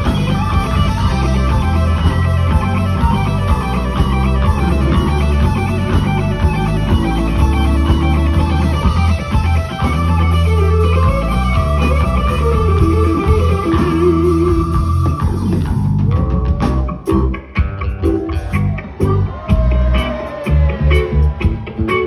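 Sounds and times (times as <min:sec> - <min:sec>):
bass guitar: 0:00.0 - 0:22.0
electric blues guitar lead: 0:00.0 - 0:22.0.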